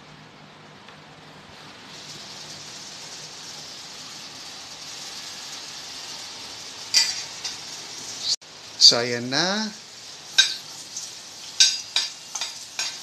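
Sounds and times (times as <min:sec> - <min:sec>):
garlic sizzling in hot oil: 0:01.5 - 0:13.0.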